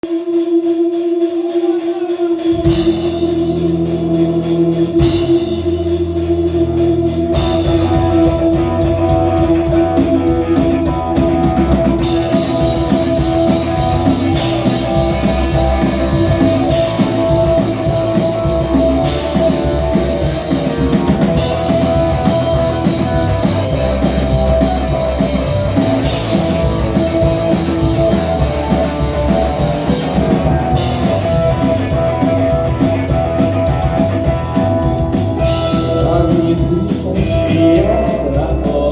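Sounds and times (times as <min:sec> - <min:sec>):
drum kit: 0:00.0 - 0:38.9
electric guitar: 0:00.1 - 0:38.9.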